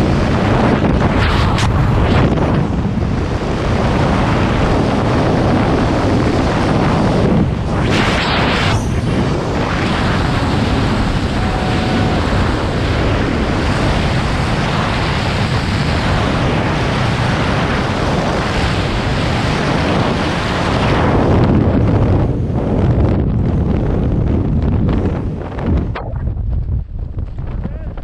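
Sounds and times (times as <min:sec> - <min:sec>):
wind rushing across microphone: 0:00.0 - 0:28.0.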